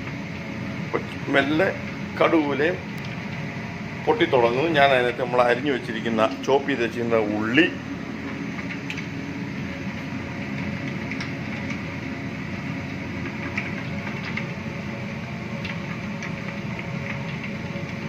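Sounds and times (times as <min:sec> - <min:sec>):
kitchen machinery drone: 0:00.0 - 0:18.0.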